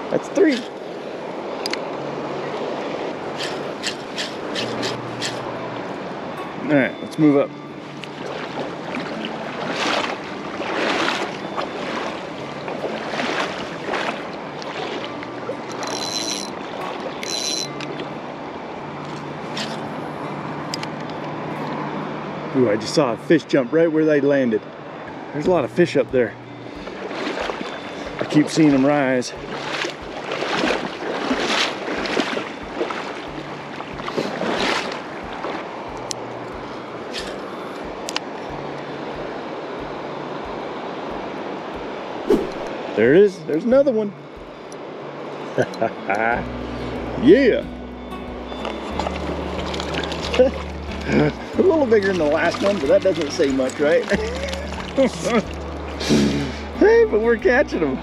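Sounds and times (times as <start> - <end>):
river rushing over rocks: 0.0 - 22.6, 24.7 - 46.0, 48.7 - 56.8.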